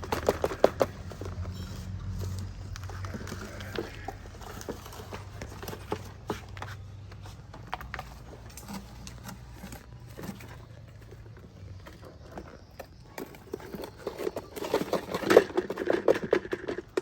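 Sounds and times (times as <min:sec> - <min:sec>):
scrapes and clicks of gravel: 0:00.0 - 0:17.0.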